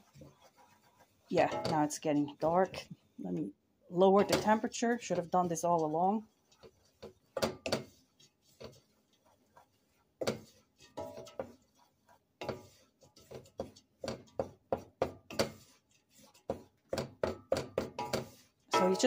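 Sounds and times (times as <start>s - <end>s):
utensil scraping a metal pot: 0.0s - 19.0s.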